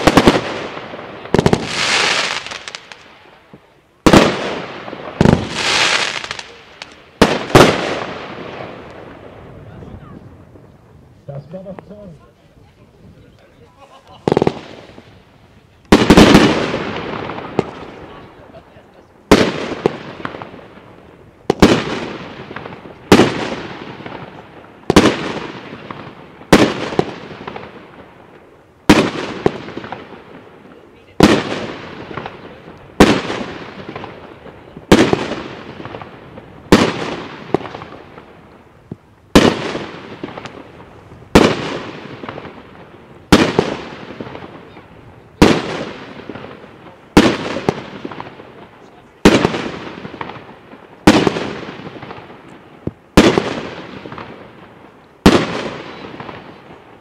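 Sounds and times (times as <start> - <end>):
fireworks bursting with loud bangs: 0.0 - 12.2, 13.8 - 57.0.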